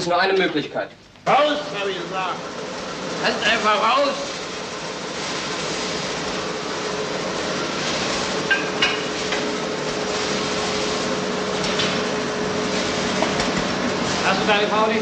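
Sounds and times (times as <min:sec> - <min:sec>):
roasting machinery hum: 0:01.0 - 0:15.0.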